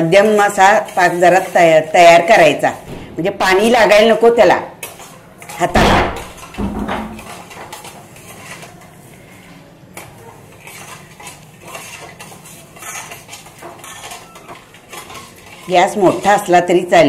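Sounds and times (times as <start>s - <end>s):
ladle scraping metal pot: 0.0s - 4.2s, 4.8s - 16.6s.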